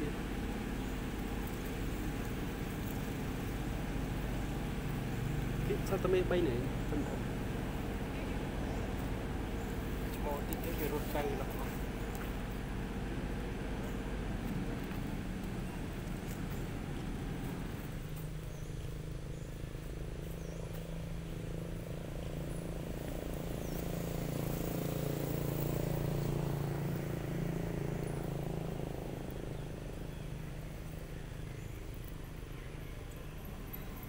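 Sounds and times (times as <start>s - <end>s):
passing vehicle engine hum: 0.0s - 34.0s.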